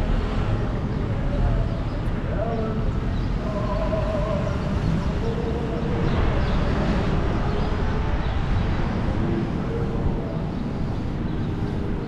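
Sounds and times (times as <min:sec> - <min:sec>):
outdoor street noise: 0:00.0 - 0:12.0
wind blowing across microphone: 0:00.0 - 0:12.0.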